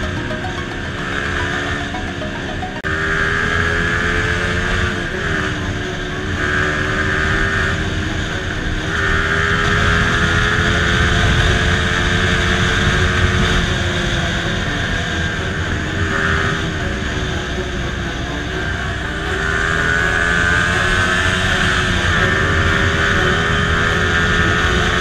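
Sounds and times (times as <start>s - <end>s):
motorcycle engine running: 2.8s - 25.0s.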